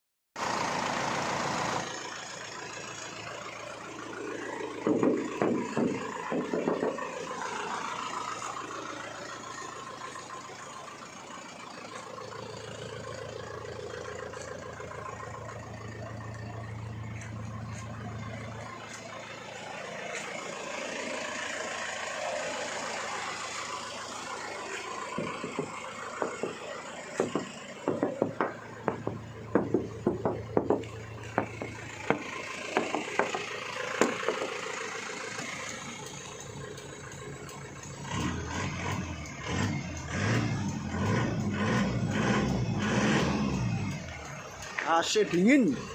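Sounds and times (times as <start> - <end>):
diesel engine idling: 0.4 - 45.9.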